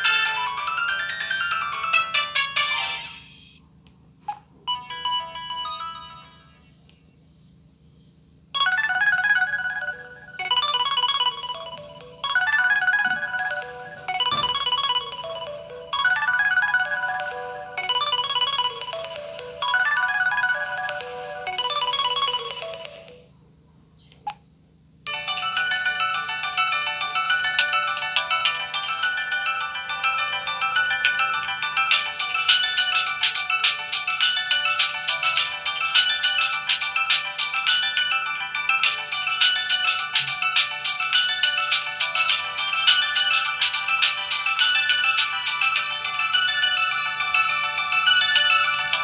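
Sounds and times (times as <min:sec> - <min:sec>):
busier ringtone melody: 0:00.0 - 0:03.6, 0:04.7 - 0:06.7, 0:08.6 - 0:23.3, 0:25.1 - 0:49.0
phone ringtone melody: 0:00.0 - 0:03.6, 0:04.7 - 0:06.6, 0:08.6 - 0:23.3, 0:25.1 - 0:49.0.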